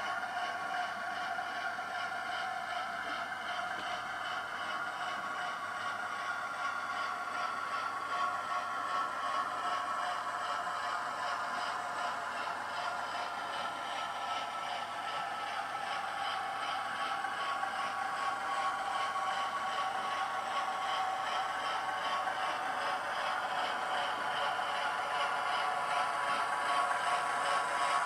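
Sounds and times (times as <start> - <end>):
model train diesel engine sound: 0.0 - 28.0.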